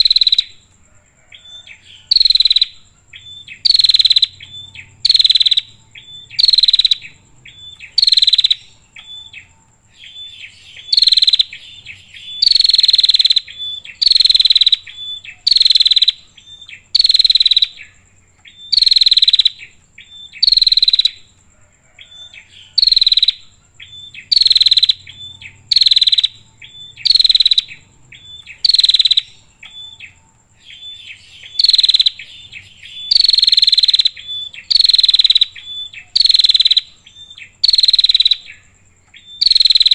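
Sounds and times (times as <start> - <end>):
high insect buzz: 0.0 - 39.9
bird harsh chirp: 1.4 - 21.2, 22.4 - 39.9.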